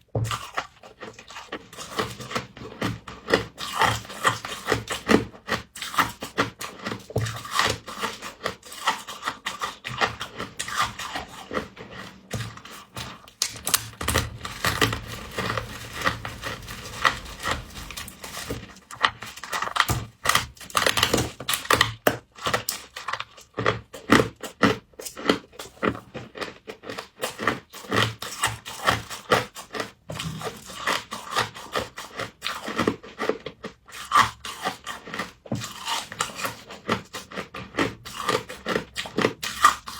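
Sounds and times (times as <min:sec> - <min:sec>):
crunching and chewing of frost: 0:00.2 - 0:18.7, 0:20.8 - 0:39.9.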